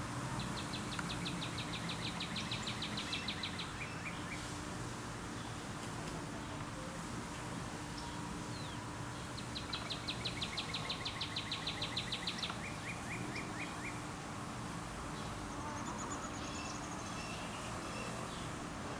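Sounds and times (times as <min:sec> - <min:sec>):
outdoor background hiss: 0:00.0 - 0:18.9.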